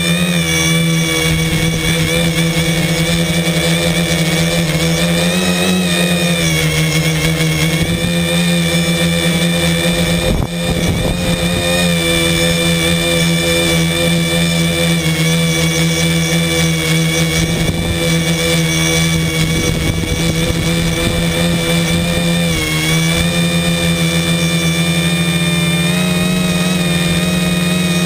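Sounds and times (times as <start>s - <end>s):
drone motors whining: 0.0s - 28.0s
gusty wind disturbance: 1.0s - 15.8s, 16.7s - 25.9s.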